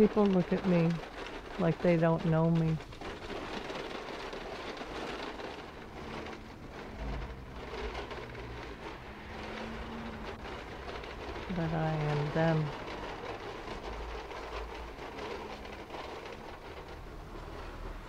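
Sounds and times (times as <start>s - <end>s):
plastic bags rustling: 0.0s - 18.0s
street traffic noise: 0.0s - 18.0s
wagon rattling over concrete: 0.0s - 18.0s.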